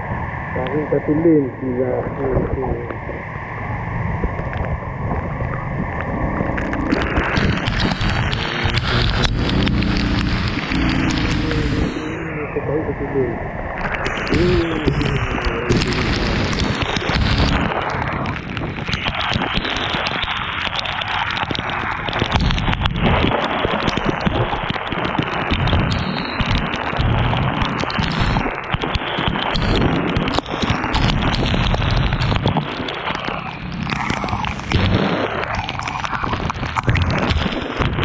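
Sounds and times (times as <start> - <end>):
low rumble: 0.0 - 38.0
wind buffeting microphone: 2.2 - 12.3, 13.0 - 38.0
raindrops clicking on microphone: 4.2 - 12.2, 13.7 - 38.0.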